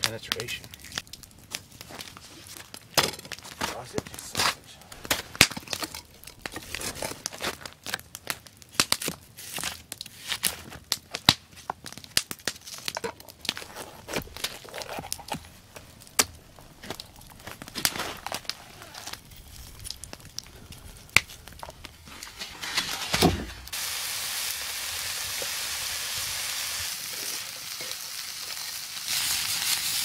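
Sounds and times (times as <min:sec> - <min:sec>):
campfire crackling and popping: 0:00.0 - 0:22.9, 0:23.6 - 0:30.0.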